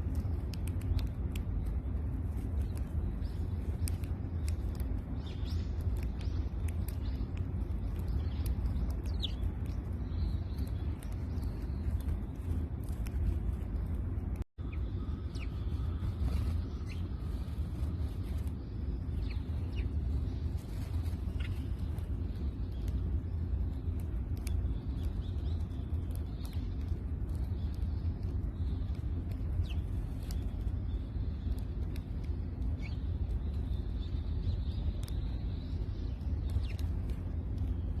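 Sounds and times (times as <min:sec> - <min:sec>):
sparrows chirping: 0:00.0 - 0:38.0
steady low rumble: 0:00.0 - 0:38.0.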